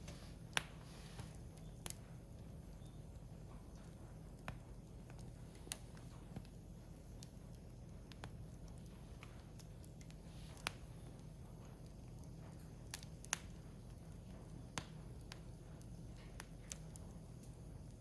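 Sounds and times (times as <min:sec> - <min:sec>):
firewood crackling and popping: 0:00.0 - 0:18.0
low steady hum: 0:00.0 - 0:18.0.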